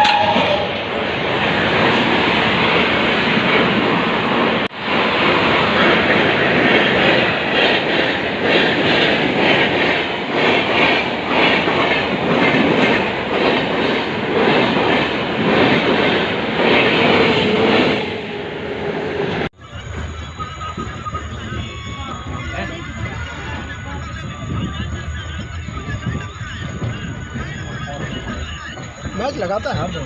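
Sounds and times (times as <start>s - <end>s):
clickety-clack of rail joints: 0.0s - 18.2s, 19.2s - 30.0s
train wheels rumbling on rails: 0.0s - 30.0s.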